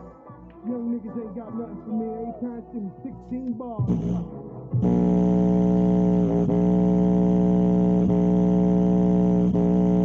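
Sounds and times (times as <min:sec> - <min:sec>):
hip-hop instrumental through subwoofer: 0:00.0 - 0:10.0.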